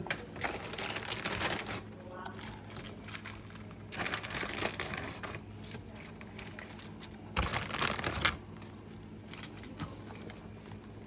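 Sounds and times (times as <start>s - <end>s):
handling clicks and crinkling: 0.0s - 11.0s.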